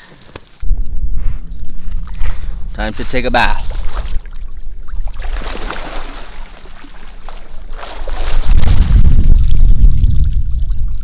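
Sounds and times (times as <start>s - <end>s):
wind buffeting microphone: 0.6s - 11.0s
water splashing: 1.6s - 11.0s.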